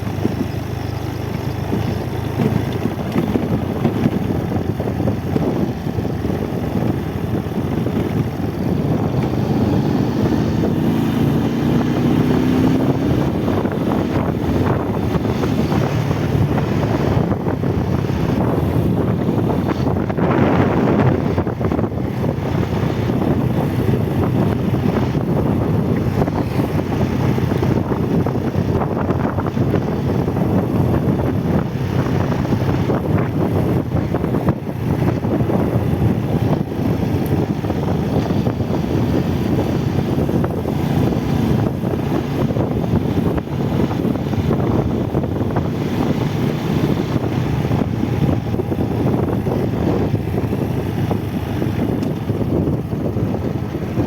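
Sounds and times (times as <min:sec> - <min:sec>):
motorcycle engine running: 0:00.0 - 0:54.0
wind buffeting the microphone: 0:00.0 - 0:54.0.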